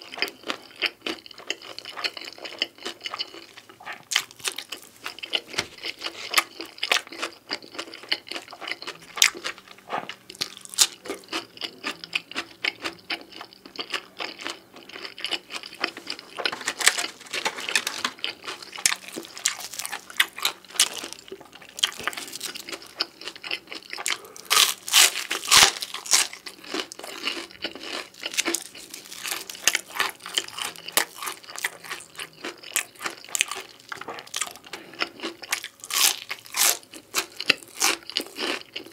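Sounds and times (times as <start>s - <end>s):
crunchy chewing of pizza crust: 0.0s - 38.9s.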